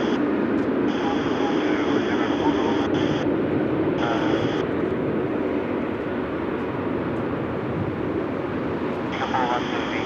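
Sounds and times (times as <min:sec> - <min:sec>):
jet engines at takeoff: 0:00.0 - 0:10.0.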